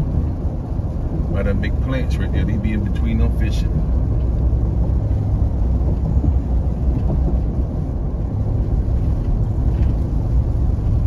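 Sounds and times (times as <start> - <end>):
car driving inside cabin: 0.0 - 11.0.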